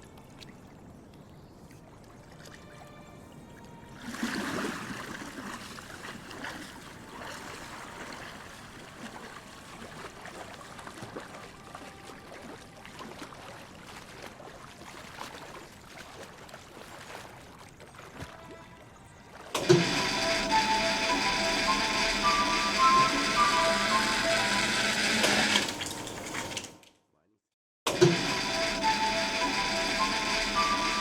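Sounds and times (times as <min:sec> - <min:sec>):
running water trickling: 0:00.0 - 0:26.9.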